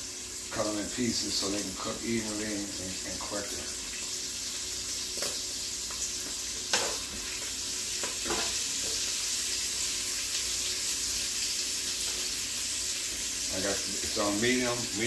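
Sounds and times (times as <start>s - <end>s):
bacon sizzling: 0.0s - 15.0s.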